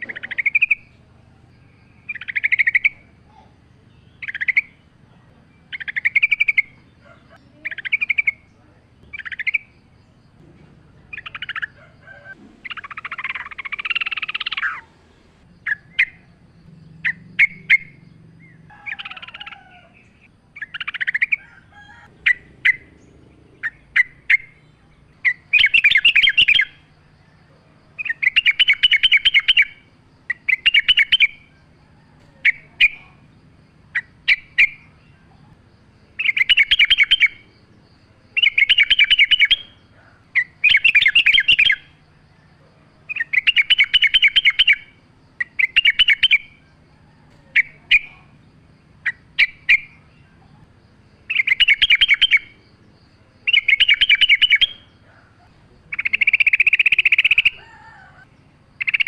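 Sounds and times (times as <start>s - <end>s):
bulbul trilled chattering: 0.0s - 59.0s.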